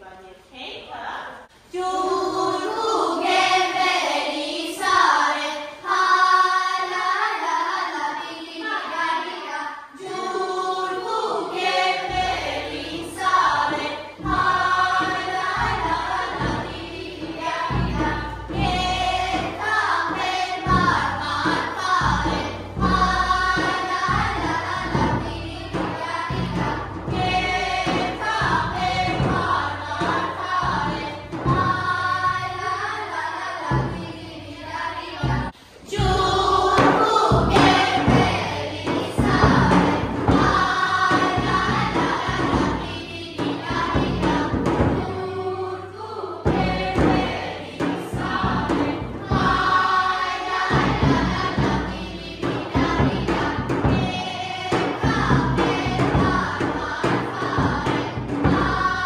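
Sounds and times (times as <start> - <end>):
group singing a folk song: 1.6 - 59.0
low drum thumps: 11.0 - 59.0.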